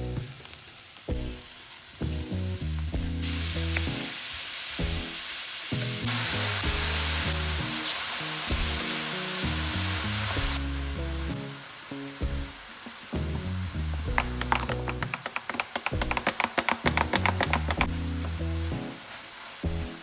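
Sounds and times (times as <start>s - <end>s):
food sizzling in frying pan: 0.0s - 20.0s
background music: 1.1s - 5.2s, 5.8s - 20.0s.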